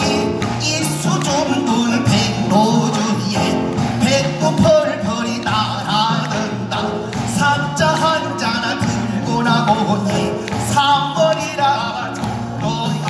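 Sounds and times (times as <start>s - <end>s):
man singing with wavering voice: 0.0s - 13.0s.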